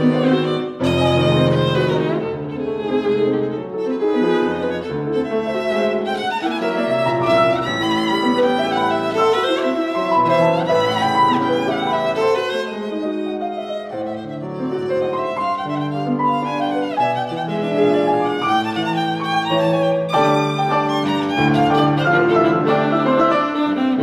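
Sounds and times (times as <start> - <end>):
bowed string instrument melody: 0.0 - 24.0
piano accompaniment: 0.0 - 24.0.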